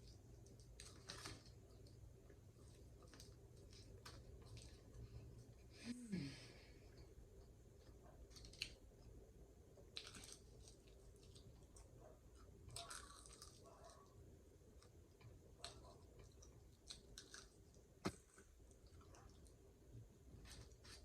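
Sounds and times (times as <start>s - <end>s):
faint chewing: 0.0s - 5.7s, 6.7s - 21.0s.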